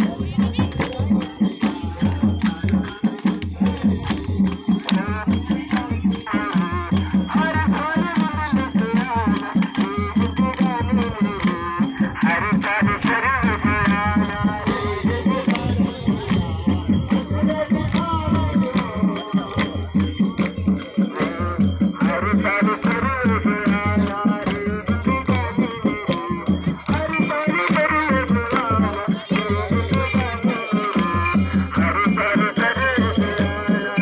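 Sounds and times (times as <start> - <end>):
fast drum beat: 0.0 - 34.0
jingling rattling percussion: 0.0 - 34.0.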